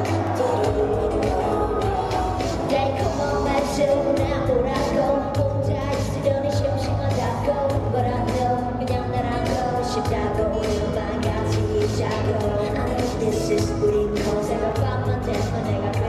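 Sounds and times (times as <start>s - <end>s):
live pop song with female vocals: 0.0s - 16.0s.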